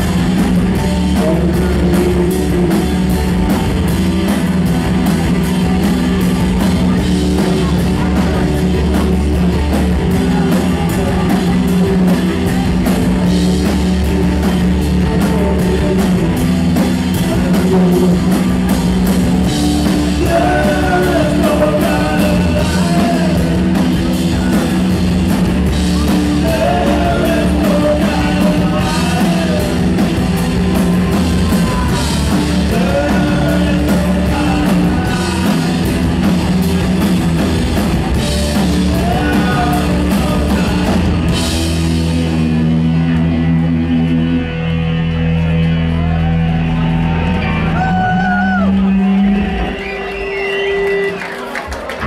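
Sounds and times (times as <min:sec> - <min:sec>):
bass guitar: 0:00.0 - 0:52.0
electric guitars: 0:00.0 - 0:52.0.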